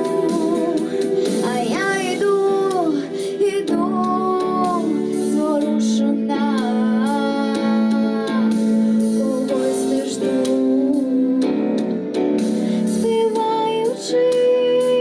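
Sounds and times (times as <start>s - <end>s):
woman singing: 0.0s - 12.2s, 12.8s - 15.0s
instrumental backing: 0.0s - 15.0s.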